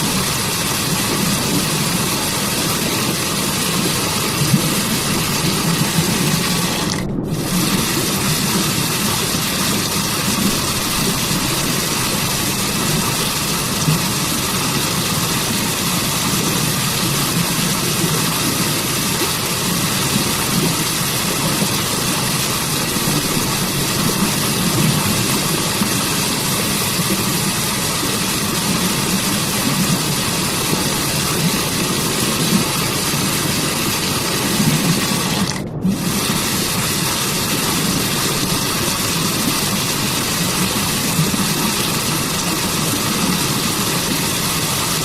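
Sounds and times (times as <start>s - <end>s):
waterfall and stream rushing: 0.0s - 45.0s.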